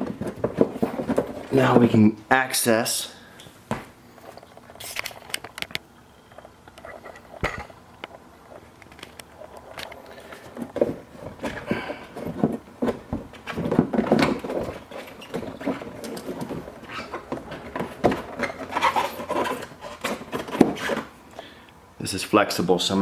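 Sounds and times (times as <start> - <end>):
plastic scraping and rustling: 0.0 - 2.0, 4.1 - 21.2.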